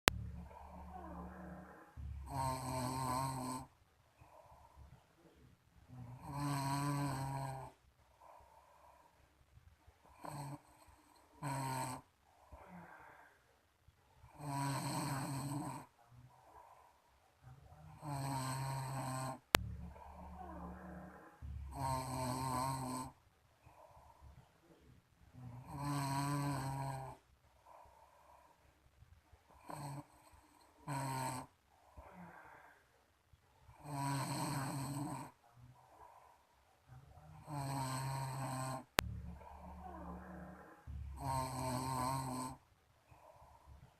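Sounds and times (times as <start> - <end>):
person snoring: 0.1 - 9.2, 10.0 - 13.4, 14.2 - 17.0, 17.8 - 28.6, 29.5 - 32.9, 33.7 - 36.4, 37.2 - 43.9
faint breathing: 3.3 - 43.9.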